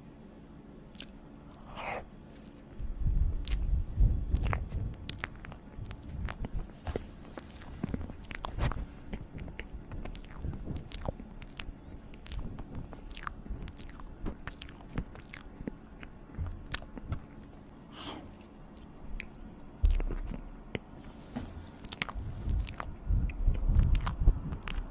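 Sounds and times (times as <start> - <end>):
person chewing food: 0.9 - 24.9.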